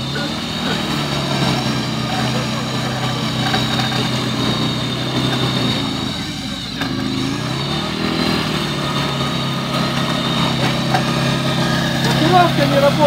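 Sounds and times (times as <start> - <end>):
engine working hard: 0.0 - 13.0.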